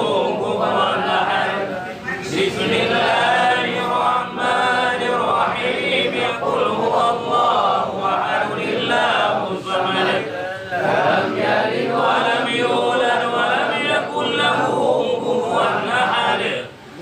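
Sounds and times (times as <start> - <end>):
men chanting prayers in unison: 0.0 - 17.0.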